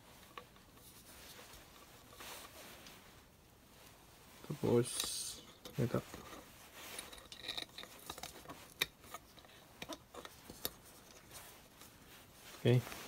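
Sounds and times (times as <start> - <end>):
rustling of wires being handled: 0.0 - 13.0.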